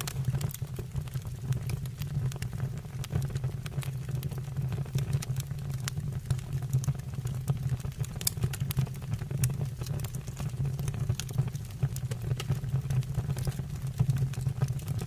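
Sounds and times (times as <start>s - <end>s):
fire roaring: 0.0s - 14.9s
fire crackling and popping: 0.0s - 15.0s.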